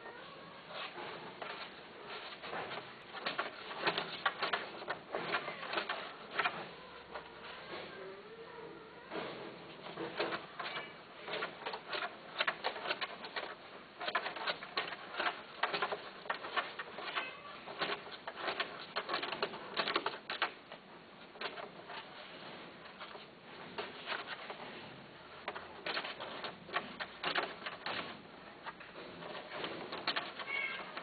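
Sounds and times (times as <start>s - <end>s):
small animal clicking and rustling: 0.7s - 8.0s, 9.1s - 31.0s.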